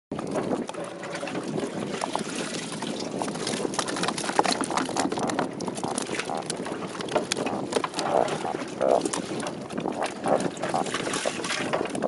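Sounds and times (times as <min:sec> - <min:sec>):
water splashing and sloshing: 0:00.1 - 0:12.0.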